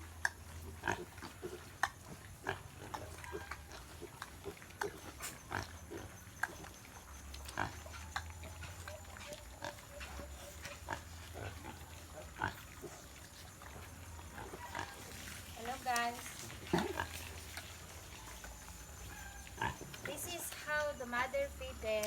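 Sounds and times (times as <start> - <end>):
pigs grunting and squealing: 0.0 - 20.1.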